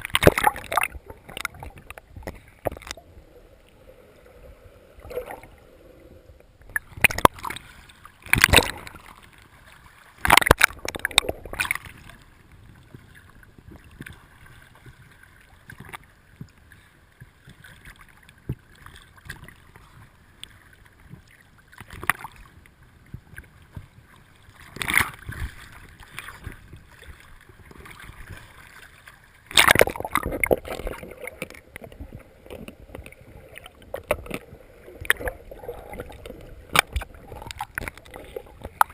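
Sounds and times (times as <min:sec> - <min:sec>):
water lapping: 0:00.0 - 0:38.9
water splashing around a rowboat: 0:00.0 - 0:38.9.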